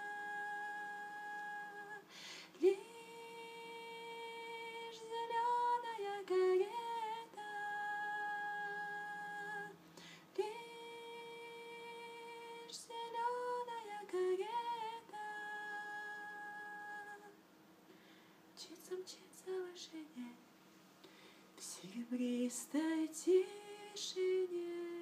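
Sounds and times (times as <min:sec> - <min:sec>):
woman singing a cappella: 0:00.0 - 0:17.4, 0:18.6 - 0:20.4, 0:21.6 - 0:25.0.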